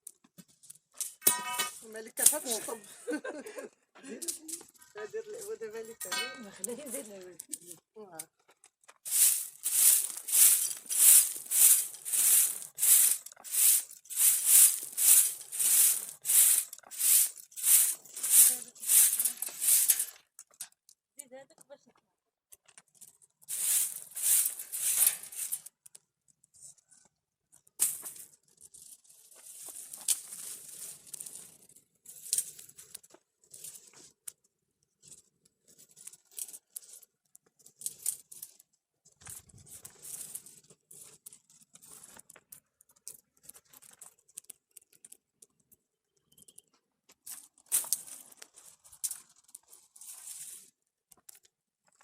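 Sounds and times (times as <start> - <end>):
dry wood crackling and snapping: 1.9 - 2.8, 6.5 - 34.4, 35.0 - 38.6, 39.2 - 50.5.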